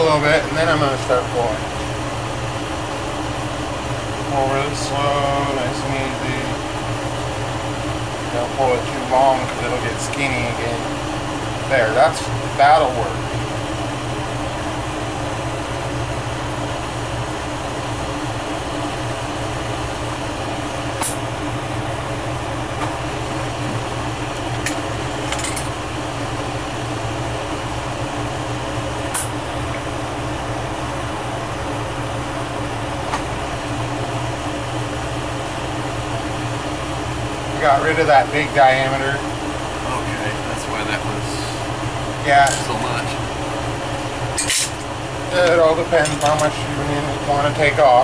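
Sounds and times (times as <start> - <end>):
torch flame hissing: 0.0 - 48.0.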